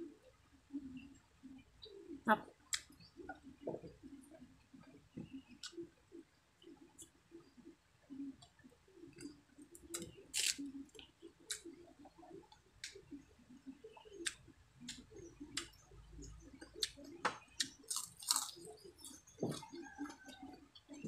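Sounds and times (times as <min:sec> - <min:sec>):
low mumble of chewing: 0:00.0 - 0:21.0.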